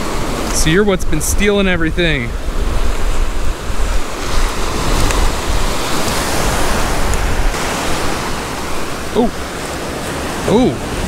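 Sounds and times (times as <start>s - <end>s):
ocean surf washing onto beach: 0.0s - 11.0s
wind rumbling on microphone: 0.0s - 11.0s.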